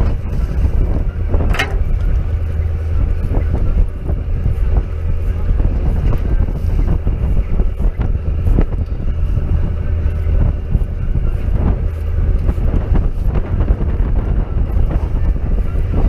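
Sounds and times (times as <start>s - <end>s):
faint constant hum: 0.0s - 16.0s
wind buffeting microphone: 0.0s - 16.0s.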